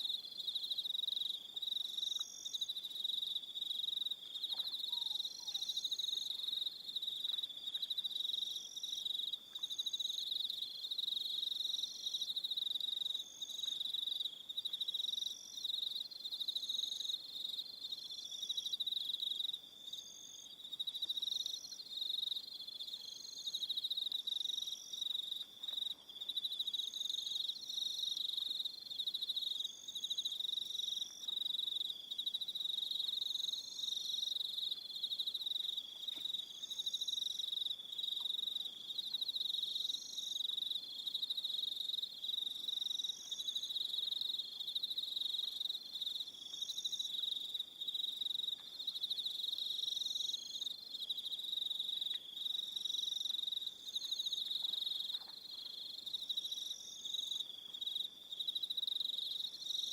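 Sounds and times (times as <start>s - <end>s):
high-pitched cricket chirps: 0.0s - 59.9s
crickets trilling: 0.2s - 59.9s.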